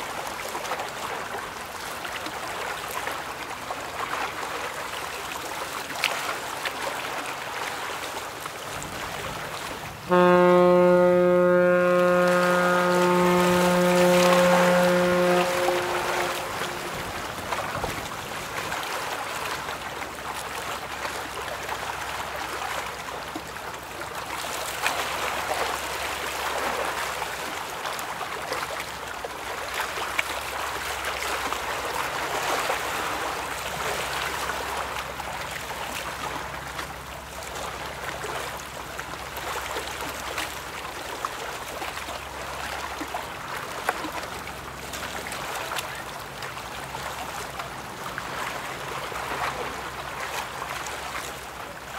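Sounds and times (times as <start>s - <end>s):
river water rushing and splashing: 0.0s - 51.9s.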